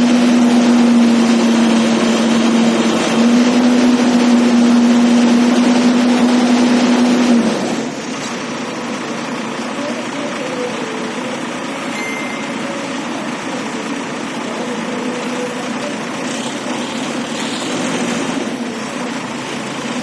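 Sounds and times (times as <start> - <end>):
diesel engine running hard: 0.0 - 20.0.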